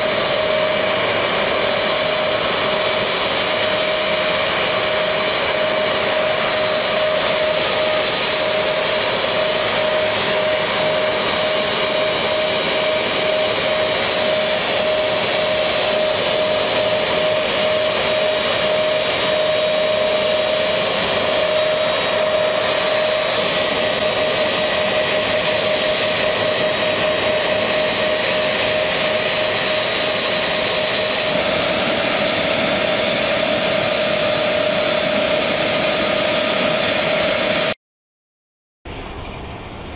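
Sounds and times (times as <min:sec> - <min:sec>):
jet engines idling: 0:00.0 - 0:37.7, 0:38.9 - 0:39.9.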